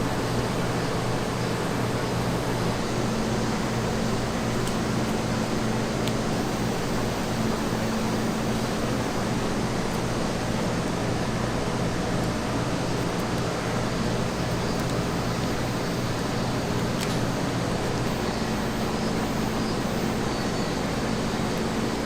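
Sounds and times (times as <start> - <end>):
machine hum and hiss: 0.0 - 22.0.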